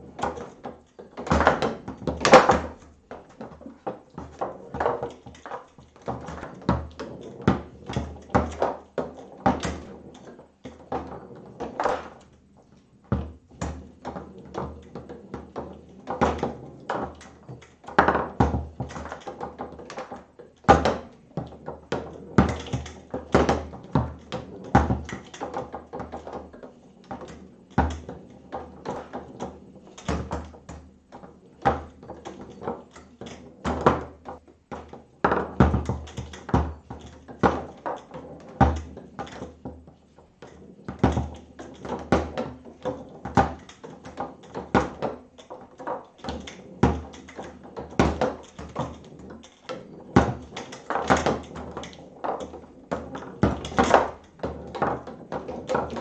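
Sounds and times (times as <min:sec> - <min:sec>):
foosball knocks and clacks: 0:00.0 - 0:56.0.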